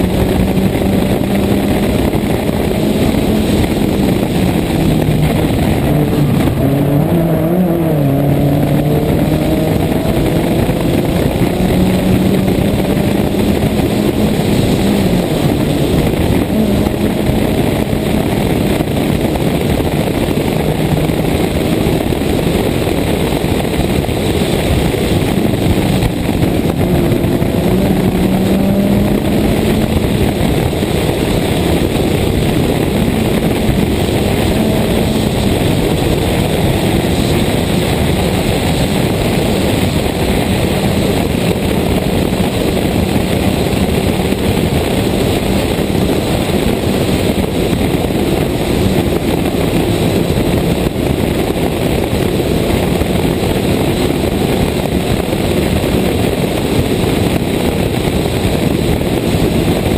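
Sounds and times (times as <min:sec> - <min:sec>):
heavy wind noise: 0:00.0 - 0:59.9
rally car engine revving: 0:00.0 - 0:59.9
road noise: 0:00.0 - 0:59.9.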